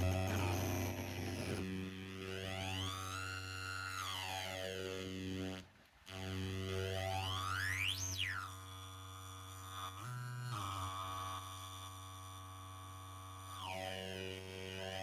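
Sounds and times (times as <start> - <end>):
synth droning buzz: 0.0 - 12.3.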